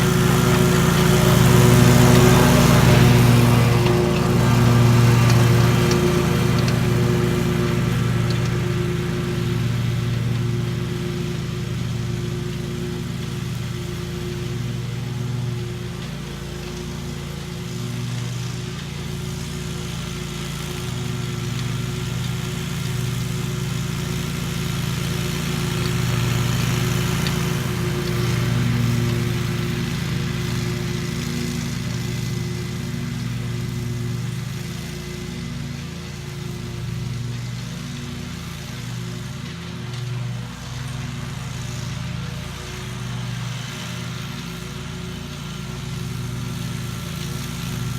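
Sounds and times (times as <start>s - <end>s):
engine humming steadily: 0.0s - 47.9s.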